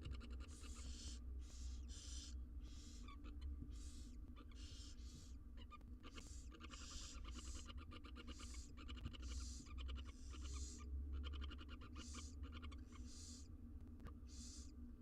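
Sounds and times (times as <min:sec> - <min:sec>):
owl chicks hissing begging calls: 0:00.0 - 0:13.5, 0:14.2 - 0:14.8.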